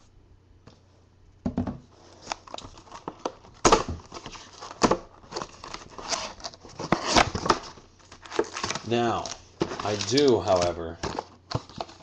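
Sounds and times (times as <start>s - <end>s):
cardboard rustling and scraping: 1.8s - 12.0s.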